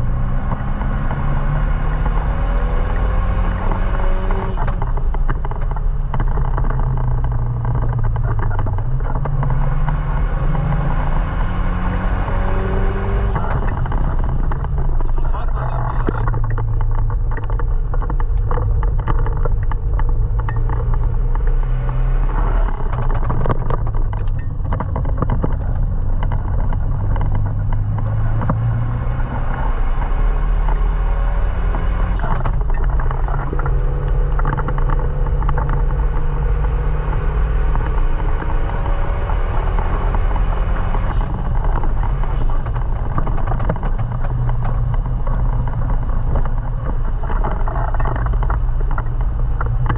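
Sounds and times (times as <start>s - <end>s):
car engine under load: 0.0s - 49.9s.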